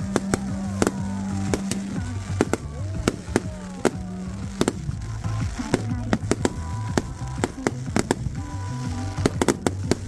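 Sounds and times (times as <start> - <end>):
fireworks banging: 0.0 - 10.0
music with stepping bass line: 0.0 - 10.0.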